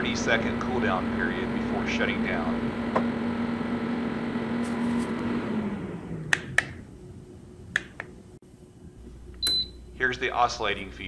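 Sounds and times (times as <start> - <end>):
heater fan winding down: 0.0 - 11.0.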